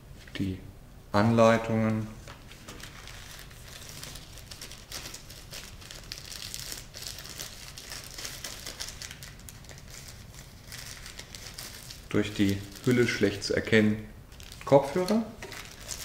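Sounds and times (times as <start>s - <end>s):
thin plastic packaging crinkling: 2.2s - 13.7s, 14.3s - 16.0s.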